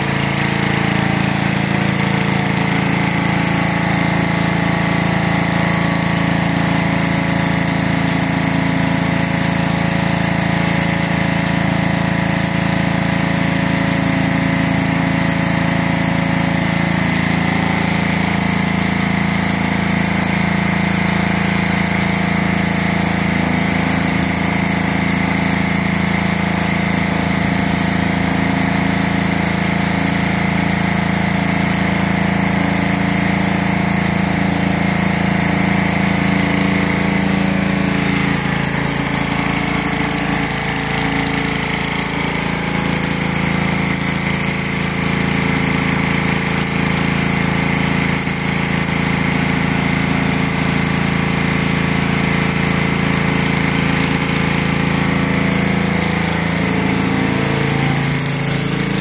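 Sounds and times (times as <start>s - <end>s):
pressure washer engine running: 0.0s - 59.0s.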